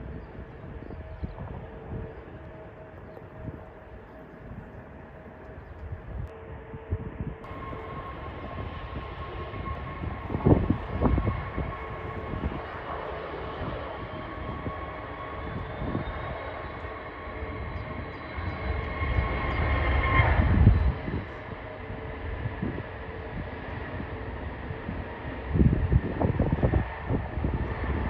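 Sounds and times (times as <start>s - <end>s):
jet engines whining: 0.0s - 28.0s.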